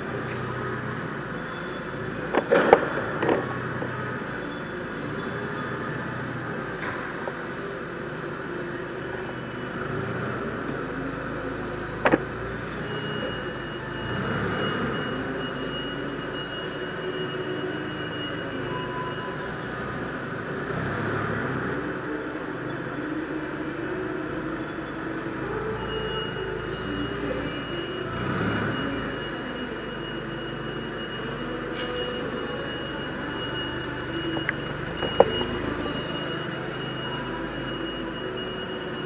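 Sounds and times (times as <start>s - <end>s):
forklift engine running: 0.0s - 39.0s.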